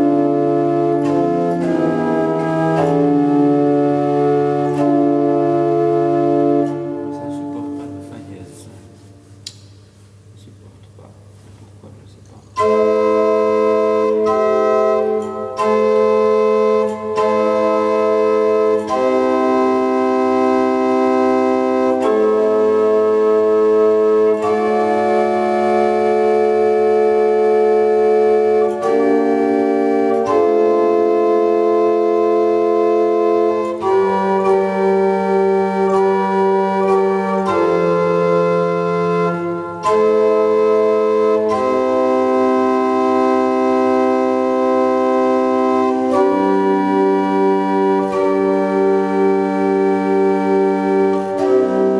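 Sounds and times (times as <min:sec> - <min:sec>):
organ playing sustained chords: 0:00.0 - 0:51.9.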